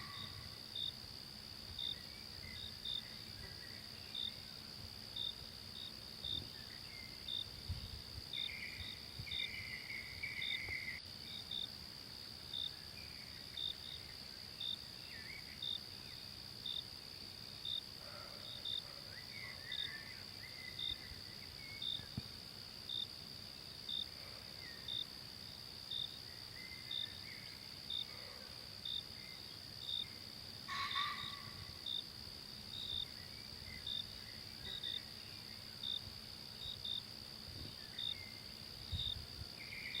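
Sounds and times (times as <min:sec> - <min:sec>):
crickets chirping: 0:00.0 - 0:40.0
insects droning: 0:00.0 - 0:40.0.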